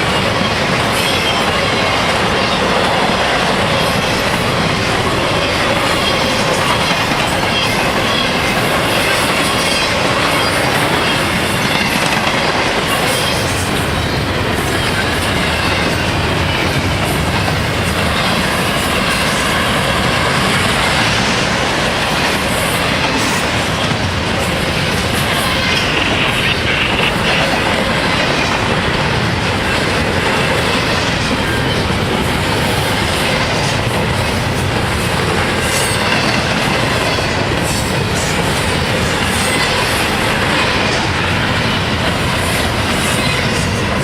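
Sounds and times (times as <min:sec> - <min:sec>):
train cars rumbling past: 0:00.0 - 0:44.0.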